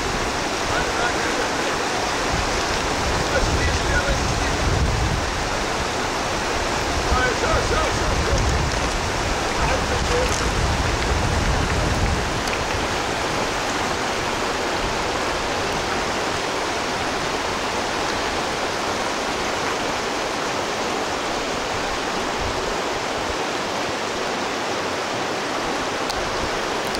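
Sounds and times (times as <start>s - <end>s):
flowing river water: 0.0s - 26.9s.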